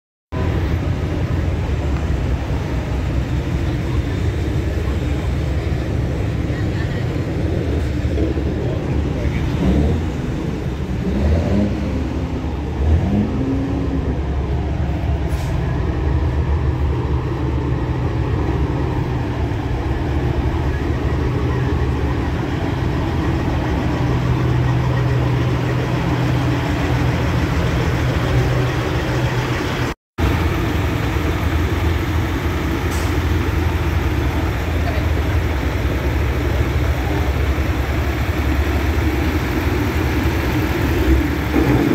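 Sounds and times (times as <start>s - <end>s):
truck engines droning: 0.3s - 41.9s.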